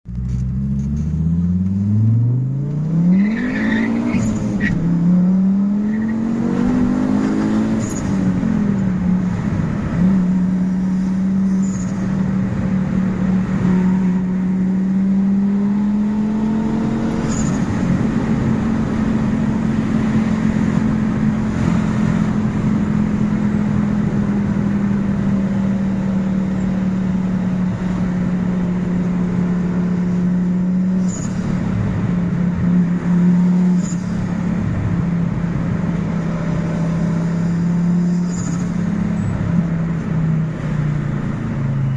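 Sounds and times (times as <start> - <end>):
car engine pulling: 0.1 - 41.9.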